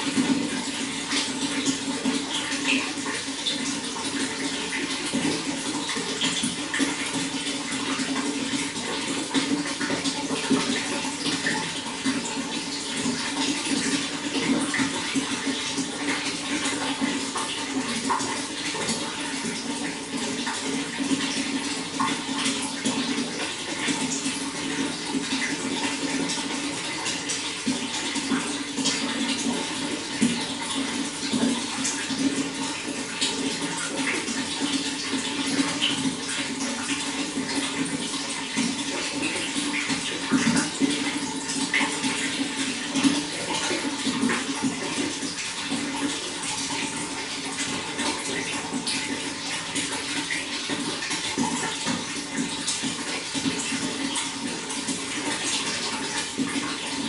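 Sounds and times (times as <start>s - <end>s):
running water flowing: 0.0s - 57.0s.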